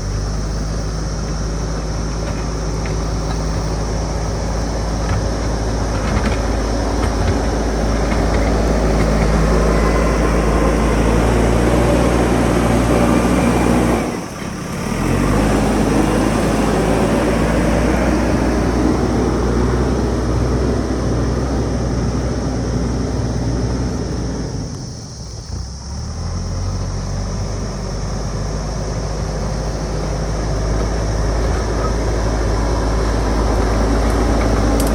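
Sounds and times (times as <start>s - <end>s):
diesel engine running hard: 0.0s - 34.9s.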